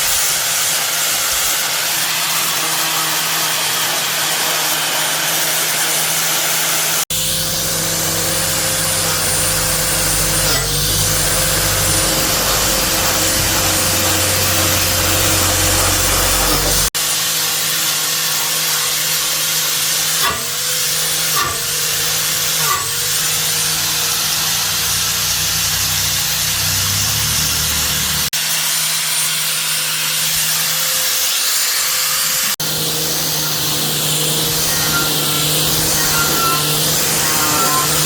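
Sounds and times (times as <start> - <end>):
electric motor humming: 0.0 - 28.3, 30.1 - 38.0.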